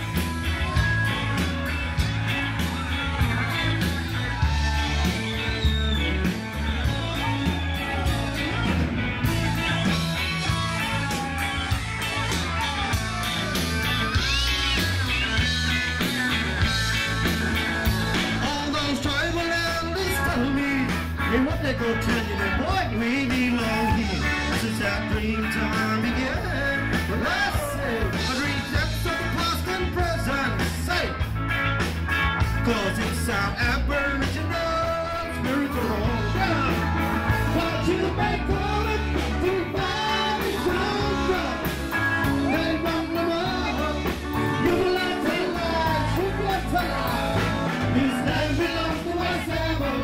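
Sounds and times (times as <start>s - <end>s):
drums: 0.0s - 50.0s
electric guitar: 0.0s - 50.0s
man singing: 4.3s - 14.9s, 17.9s - 31.3s, 32.4s - 50.0s.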